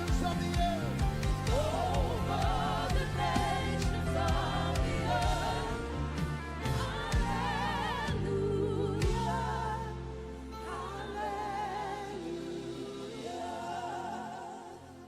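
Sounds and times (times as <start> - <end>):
bass: 0.0 - 15.0
high vocal melody with vibrato: 0.0 - 15.0.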